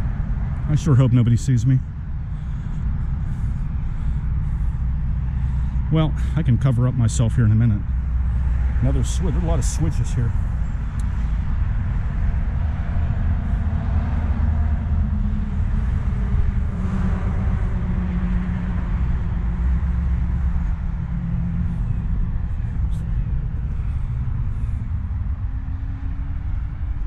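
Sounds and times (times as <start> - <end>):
highway traffic rumble: 0.0 - 27.0
vehicle passing by: 0.0 - 27.0.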